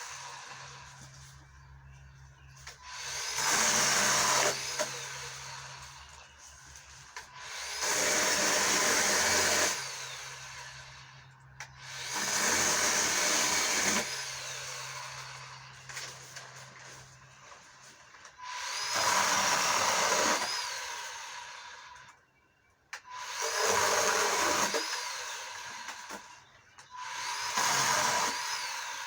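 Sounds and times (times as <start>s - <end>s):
electric chainsaw cutting branches: 0.0s - 1.5s, 2.6s - 22.3s, 23.0s - 29.0s.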